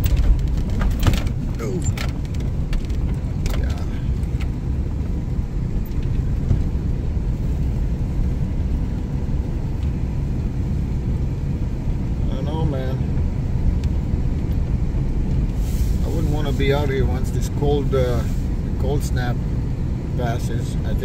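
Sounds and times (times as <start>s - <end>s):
vehicle driving on ice: 0.0s - 21.0s.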